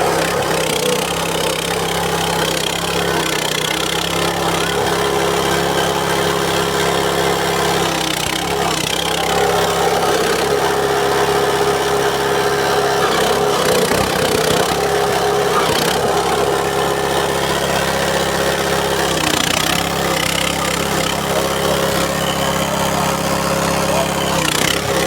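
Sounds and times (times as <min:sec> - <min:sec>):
grinding machine motor humming: 0:00.0 - 0:25.0.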